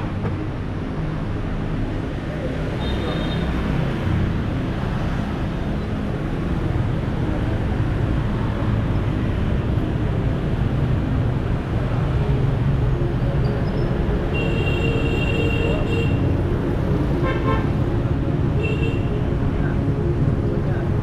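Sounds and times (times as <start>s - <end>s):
traffic engines running and passing: 0.0s - 21.0s.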